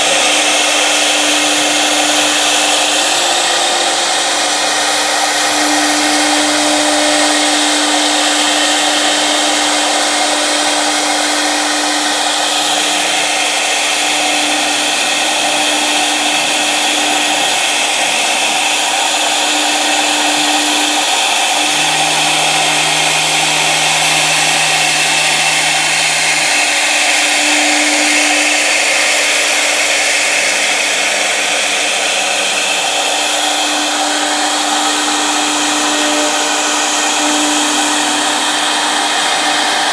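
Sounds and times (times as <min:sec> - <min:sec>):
low machine hum: 0:00.0 - 0:30.2, 0:33.2 - 0:39.9
router machine whining: 0:00.0 - 0:39.9.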